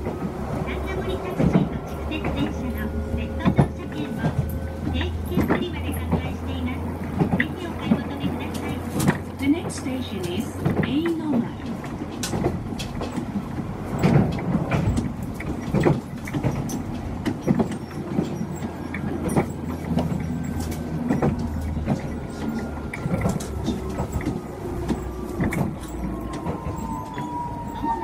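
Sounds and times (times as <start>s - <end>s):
train interior low rumble: 0.0s - 28.0s
wheels clacking over rail joints: 0.0s - 28.0s.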